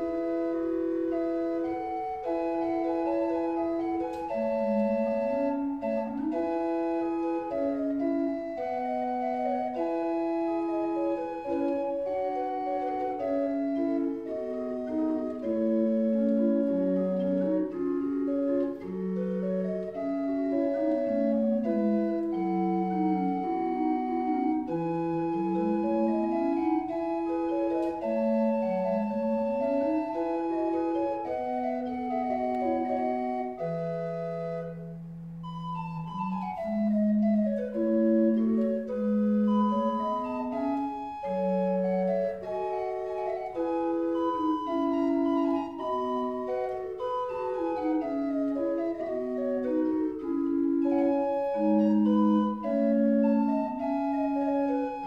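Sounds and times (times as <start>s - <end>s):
pipe organ playing flute stop: 0.0s - 55.0s.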